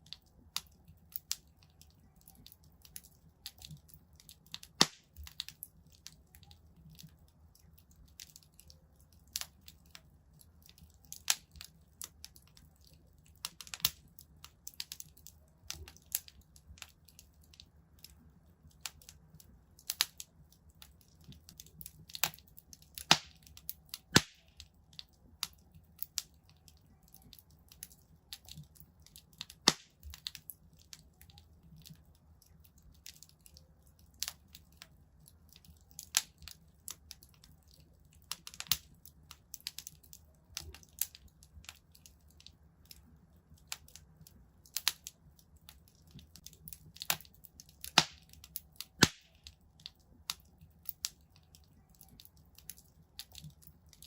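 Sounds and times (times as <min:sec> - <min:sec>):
low hum of flames: 0:00.0 - 0:54.0
wood fire crackling: 0:00.0 - 0:54.0.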